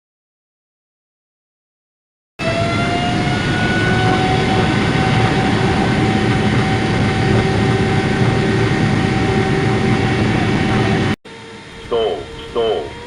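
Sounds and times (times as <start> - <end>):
jet engines rushing and whining: 2.4 - 13.0.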